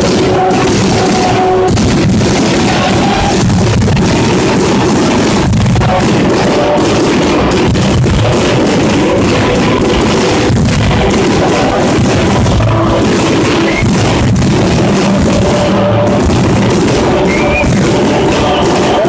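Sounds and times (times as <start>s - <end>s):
fireworks bursting: 0.0s - 19.0s
loud music: 0.0s - 19.0s.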